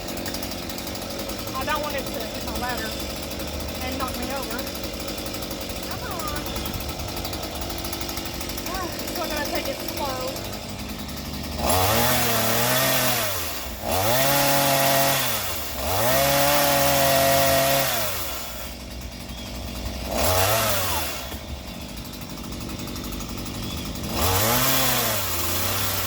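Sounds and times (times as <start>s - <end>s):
chainsaw revving and idling: 0.0s - 26.0s.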